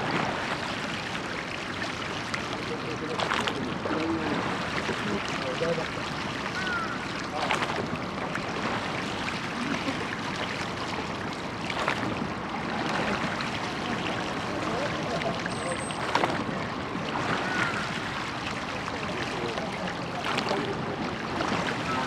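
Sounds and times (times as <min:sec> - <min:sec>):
sharp water splashes: 0:00.0 - 0:22.0
water rushing along boat hull: 0:00.0 - 0:22.0.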